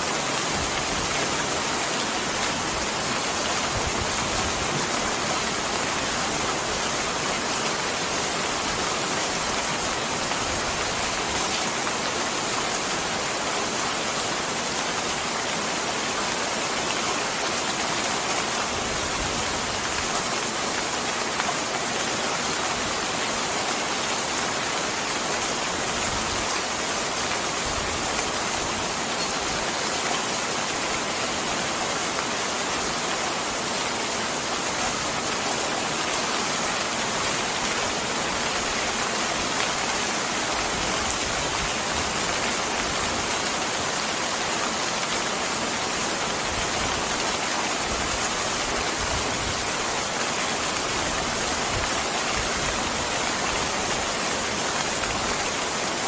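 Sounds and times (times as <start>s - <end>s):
steady dense rain: 0.0s - 56.0s.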